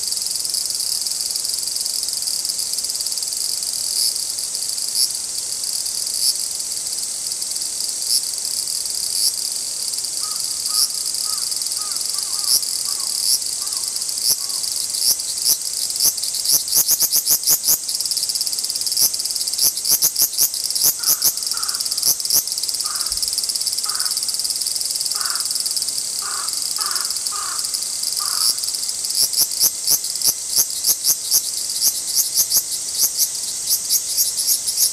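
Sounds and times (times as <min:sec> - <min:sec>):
cicadas buzzing: 0:00.0 - 0:34.9.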